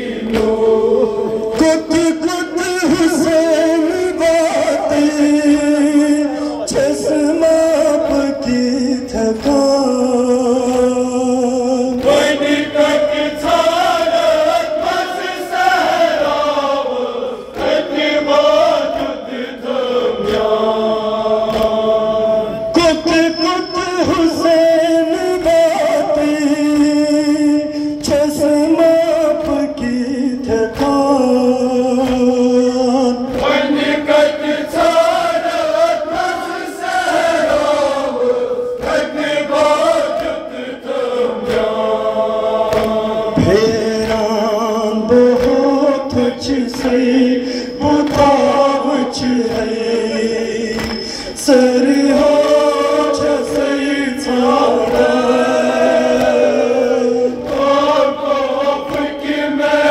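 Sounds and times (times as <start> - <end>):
person singing into a microphone: 0.0 - 13.9, 21.3 - 35.0, 37.5 - 59.9
men chanting a lament: 0.0 - 59.9.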